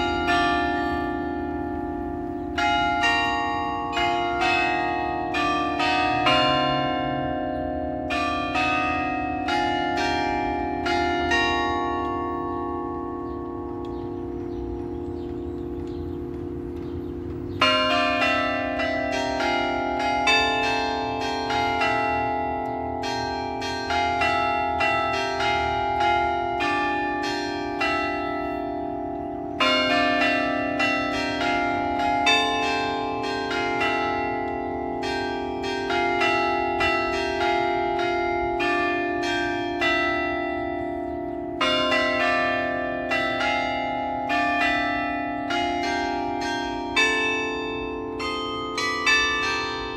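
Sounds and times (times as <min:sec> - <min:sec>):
carillon bells playing melody: 0:00.0 - 0:49.9.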